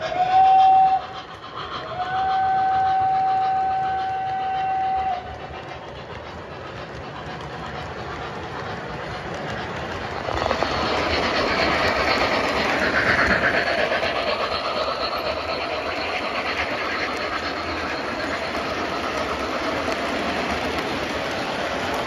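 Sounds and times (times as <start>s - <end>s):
model train wheels clattering: 0.0s - 22.0s.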